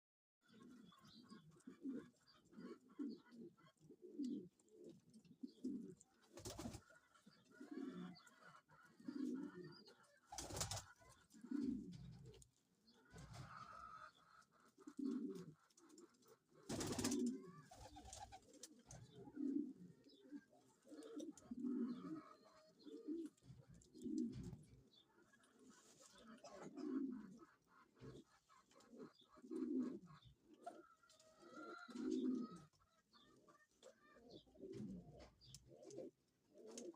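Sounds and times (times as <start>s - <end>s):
pigeons cooing: 0.4s - 36.9s.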